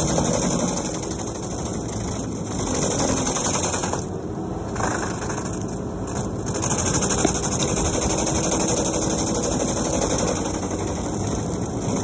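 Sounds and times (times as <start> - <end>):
engine running under load: 0.0 - 12.0
stump grinder grinding: 0.0 - 12.0.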